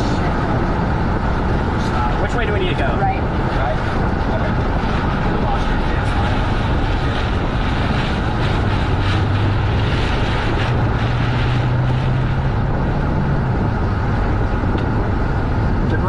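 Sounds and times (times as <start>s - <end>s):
car engine hum: 0.0s - 16.0s
road wind and rain noise: 0.0s - 16.0s.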